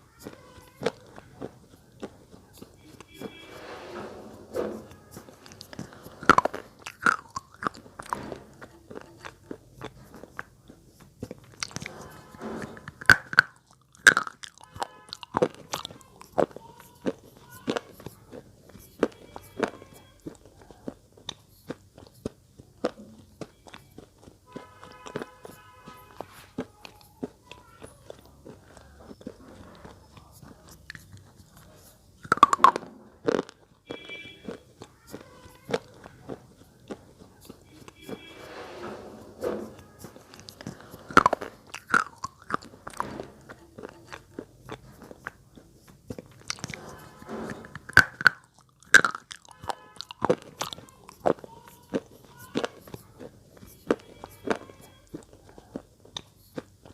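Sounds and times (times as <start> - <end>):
chewing: 0.0 - 3.8, 4.5 - 56.9
slate pencils crunching in mouth: 4.8 - 38.3, 39.6 - 56.9.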